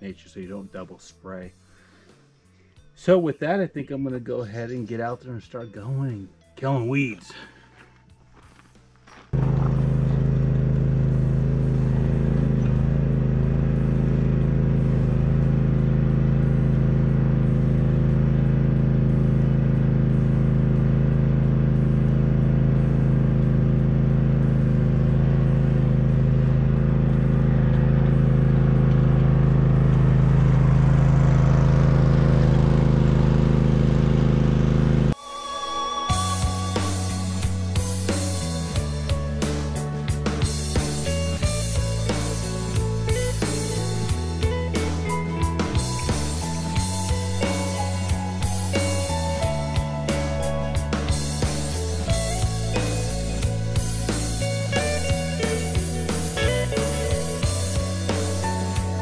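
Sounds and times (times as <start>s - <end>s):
mower engine running: 9.4s - 35.2s, 36.8s - 59.0s.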